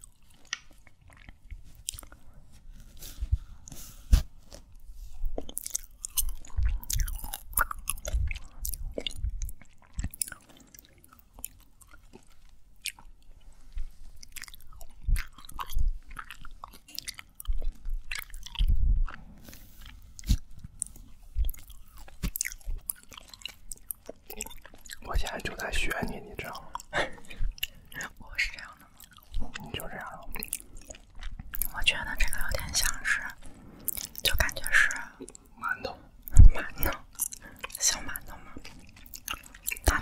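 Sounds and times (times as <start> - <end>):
chewing and biting candy: 0.0 - 40.0.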